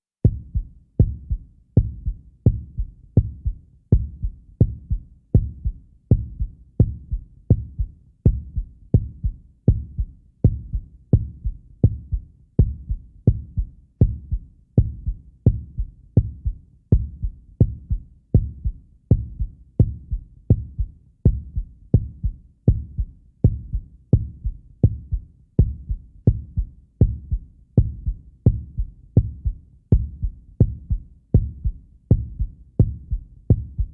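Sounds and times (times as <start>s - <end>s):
heartbeat thumps: 0.2s - 33.9s.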